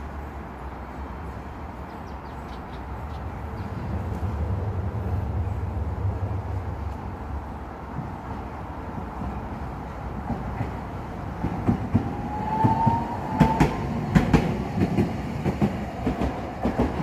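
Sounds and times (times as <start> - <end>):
tram wheels clattering over rail joints: 0.9 - 17.0.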